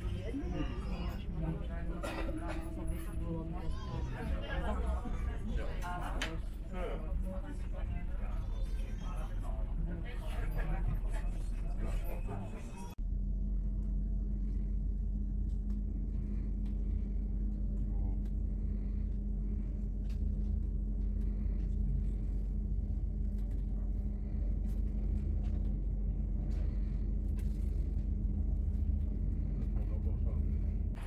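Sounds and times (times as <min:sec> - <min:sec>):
train rumble inside carriage: 0:00.0 - 0:31.0.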